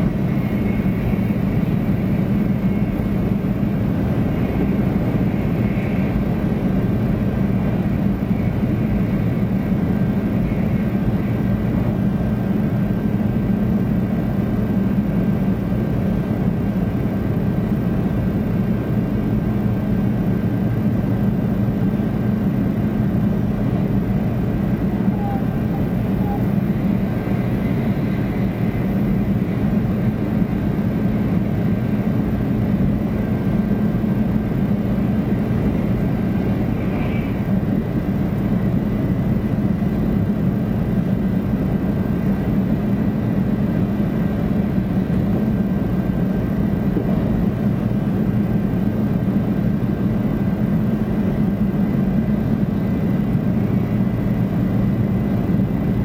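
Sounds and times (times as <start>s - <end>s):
train carriage rumble: 0.0s - 56.0s.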